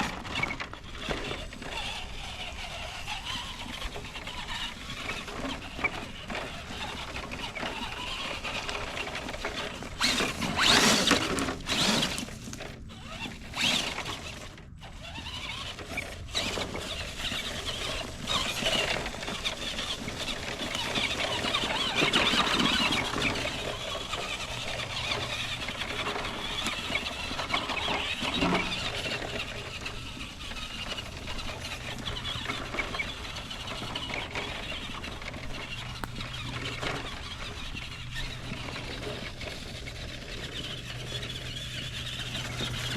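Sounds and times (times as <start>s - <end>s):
toy car motor whining: 0.0s - 42.9s.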